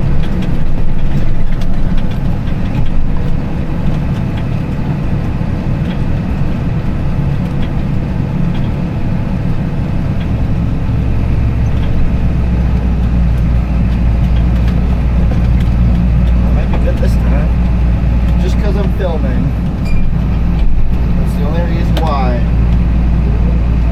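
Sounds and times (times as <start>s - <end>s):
deep low rumble: 0.0s - 23.9s
tractor engine running: 0.0s - 23.9s.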